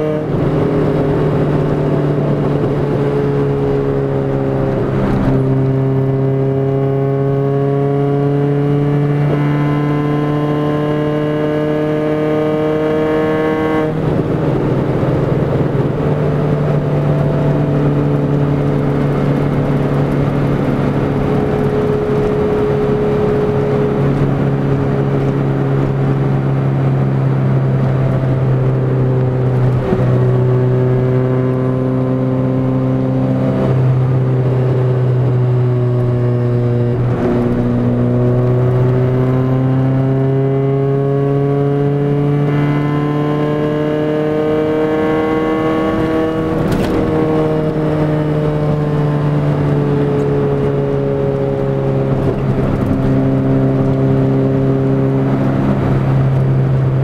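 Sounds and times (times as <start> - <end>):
car engine cruising: 0.0 - 57.0.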